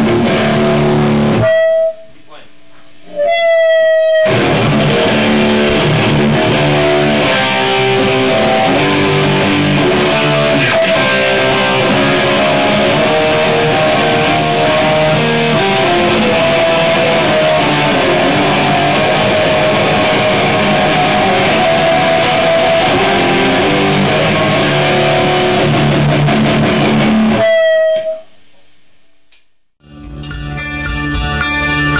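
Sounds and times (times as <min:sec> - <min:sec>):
distorted electric guitar: 0:00.0 - 0:28.3, 0:29.8 - 0:31.9.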